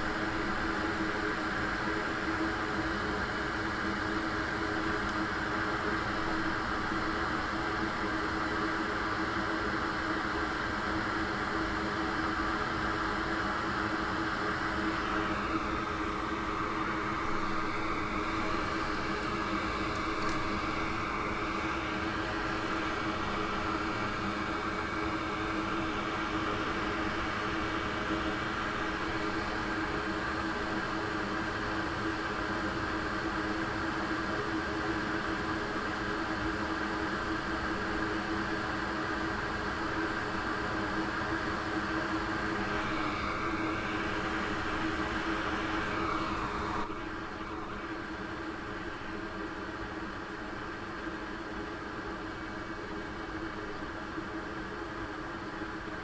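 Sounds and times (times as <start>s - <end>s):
electric fan whirring: 0.0s - 51.6s.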